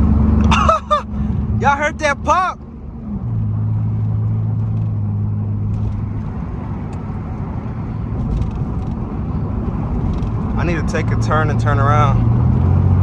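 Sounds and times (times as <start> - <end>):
car exhaust droning: 0.0 - 13.0.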